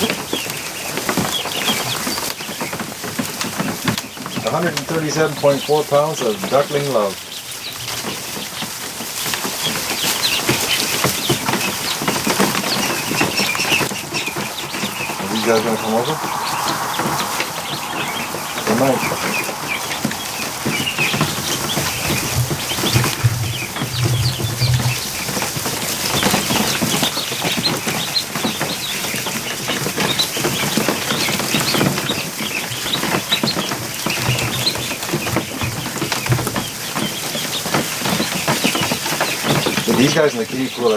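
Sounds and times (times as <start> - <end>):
ducklings feet tapping and wings flapping: 0.0 - 40.9
ducklings peeping: 0.0 - 40.9.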